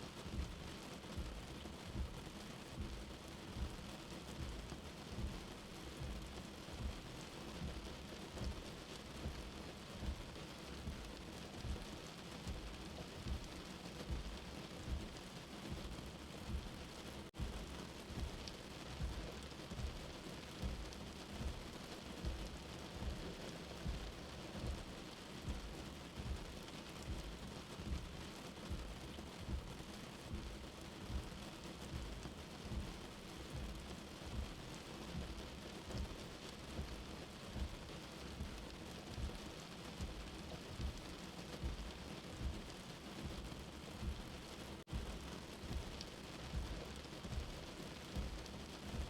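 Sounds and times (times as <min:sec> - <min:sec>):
steady rain: 0:00.0 - 0:49.0
soft heartbeat thumps: 0:00.1 - 0:49.0.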